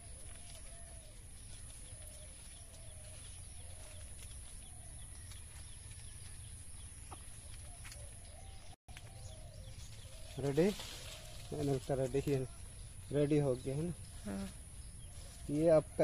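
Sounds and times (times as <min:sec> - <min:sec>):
bird calling: 0:00.0 - 0:15.6.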